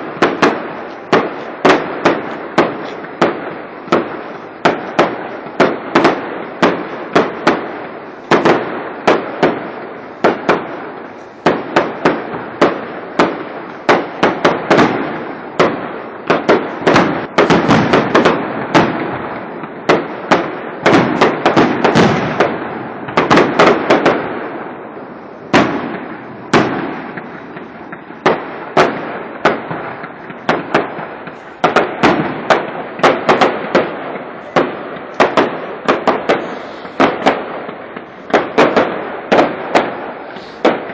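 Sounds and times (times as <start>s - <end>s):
fireworks bangs echoing: 0.0s - 40.9s.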